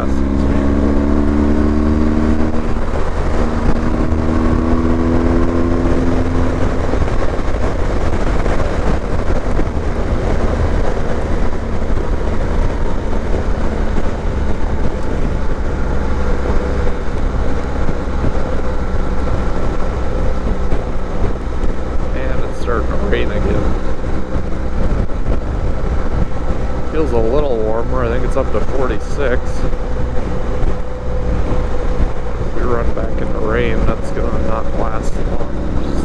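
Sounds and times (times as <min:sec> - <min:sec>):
motorcycle engine drone: 0:00.0 - 0:36.0
wind rush and road noise: 0:00.0 - 0:36.0.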